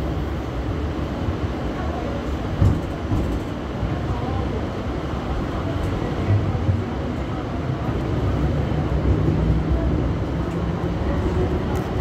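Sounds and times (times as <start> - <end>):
rumble of train wheels: 0.0 - 12.0.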